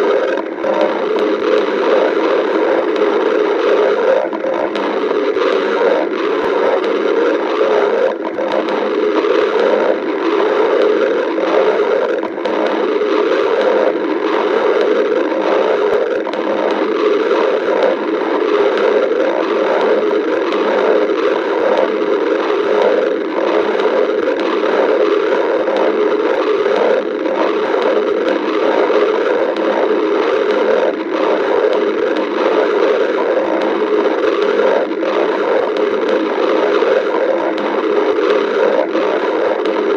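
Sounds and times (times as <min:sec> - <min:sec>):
stomach growling: 0:00.0 - 0:39.9.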